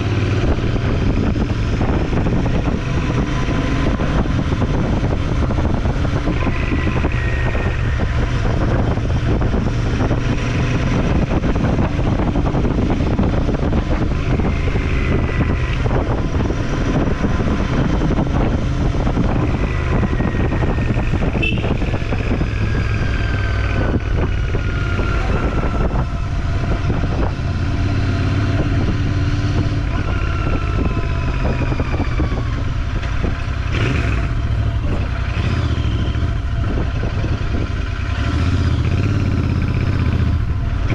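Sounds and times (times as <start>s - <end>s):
motorcycle engine drone: 0.0s - 40.9s
road and wind noise: 0.0s - 40.9s.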